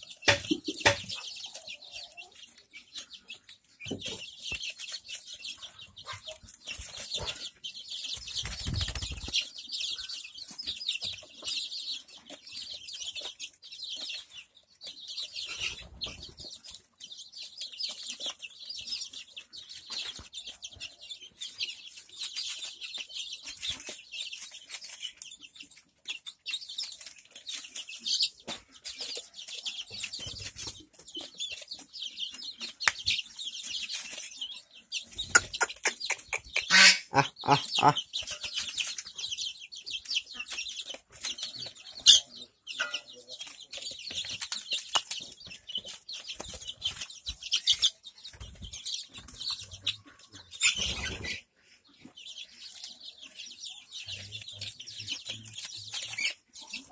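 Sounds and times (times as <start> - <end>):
chickens clucking softly: 0.0 - 4.5, 5.3 - 7.8, 8.4 - 56.9
chickens pecking plastic tray: 0.0 - 51.3, 54.4 - 56.9.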